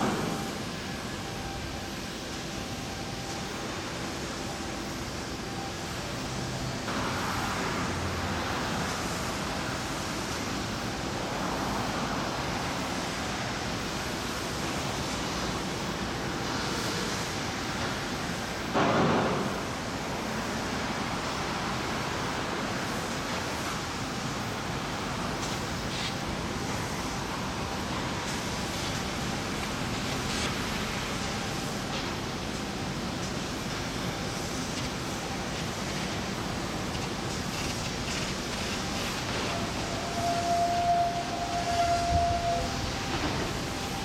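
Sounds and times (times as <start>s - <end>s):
rushing outdoor background noise: 0.0s - 44.0s.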